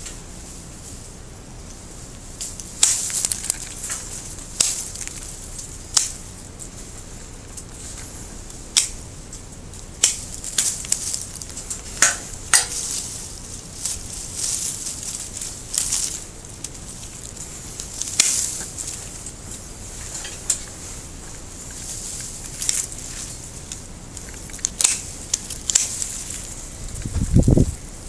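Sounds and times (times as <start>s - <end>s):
leaves and twigs rustling: 0.0s - 28.0s
pruning shears clicking: 2.4s - 6.2s, 7.6s - 9.4s, 10.0s - 27.6s.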